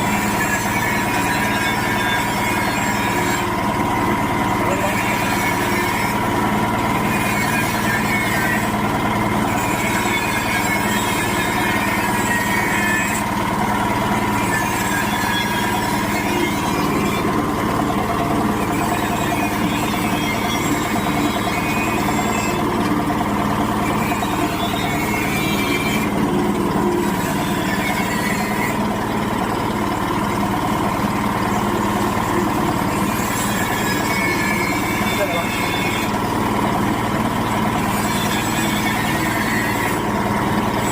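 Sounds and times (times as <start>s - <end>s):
nut splitting machine running: 0.0s - 40.9s.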